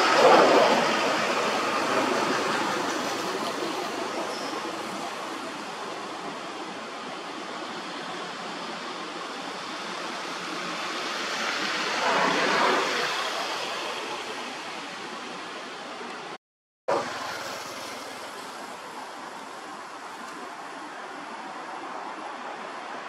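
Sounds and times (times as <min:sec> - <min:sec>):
steady outdoor rushing noise: 0:00.0 - 0:23.0.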